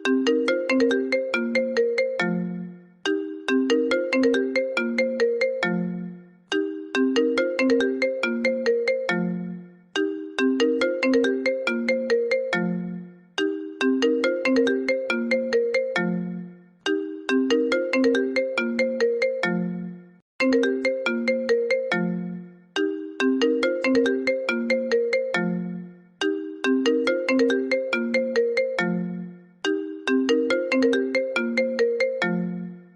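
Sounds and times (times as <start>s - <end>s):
bell-like ringtone melody: 0.0s - 32.9s.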